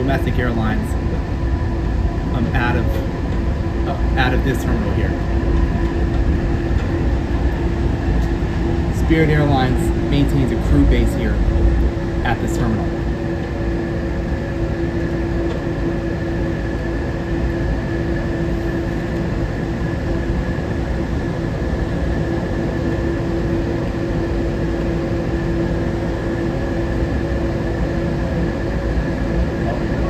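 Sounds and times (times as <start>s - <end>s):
monorail cabin rumble and hum: 0.0s - 30.0s.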